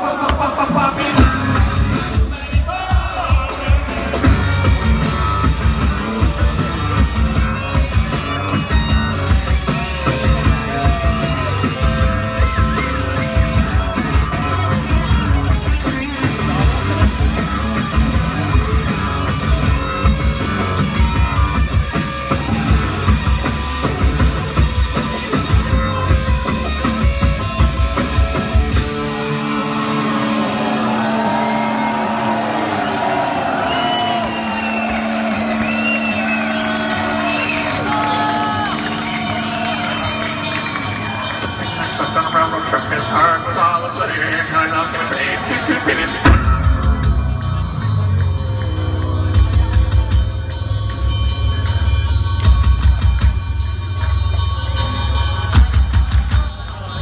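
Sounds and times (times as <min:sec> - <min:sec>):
electric guitar: 0:00.0 - 0:44.2, 0:45.0 - 0:57.0
bass guitar: 0:00.0 - 0:57.0
drums: 0:00.0 - 0:57.0.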